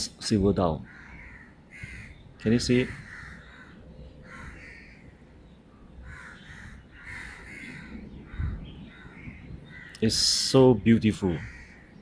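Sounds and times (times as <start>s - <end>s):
crows cawing: 0.7s - 12.0s.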